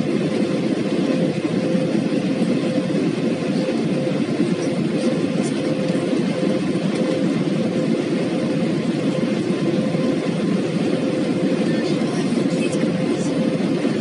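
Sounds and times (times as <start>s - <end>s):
airplane cabin engine rush: 0.0s - 14.0s.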